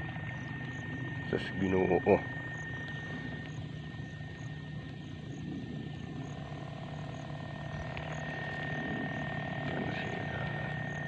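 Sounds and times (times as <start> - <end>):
motorized sprayer humming and whining: 0.0 - 11.0.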